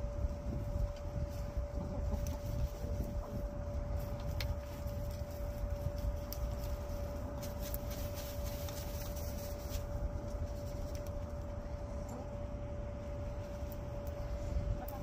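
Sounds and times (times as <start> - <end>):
hens scratching in dry soil: 0.0 - 15.0
low rumble: 0.0 - 15.0
steady hum: 0.0 - 15.0.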